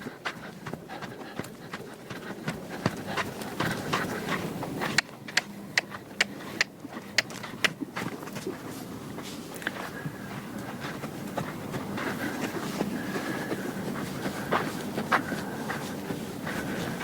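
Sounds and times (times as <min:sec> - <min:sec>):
horse hooves on firm ground: 0:00.0 - 0:17.0.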